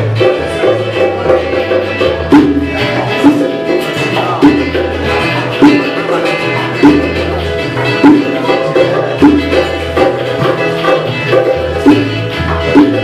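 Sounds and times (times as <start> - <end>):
bass guitar: 0.0 - 13.0
electric guitar: 0.0 - 13.0
hand drums: 0.0 - 13.0.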